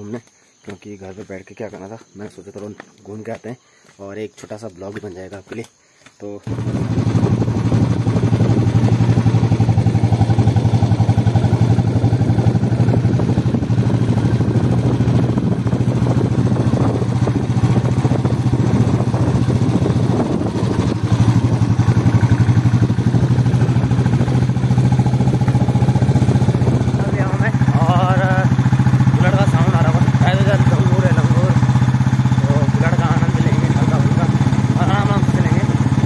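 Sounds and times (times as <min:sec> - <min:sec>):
motorcycle engine thumping: 0:04.4 - 0:36.0.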